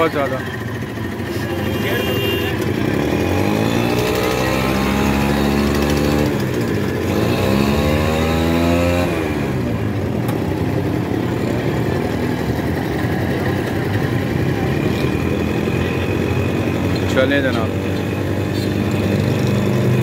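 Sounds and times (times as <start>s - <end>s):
street traffic noise: 0.0s - 20.0s
vehicle engine revving: 0.0s - 20.0s.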